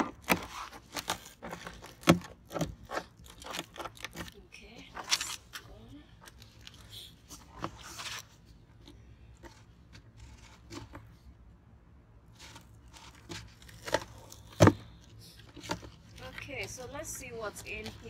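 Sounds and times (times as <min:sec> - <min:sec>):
cardboard scraping and rasping: 0:00.0 - 0:11.3, 0:12.3 - 0:18.0.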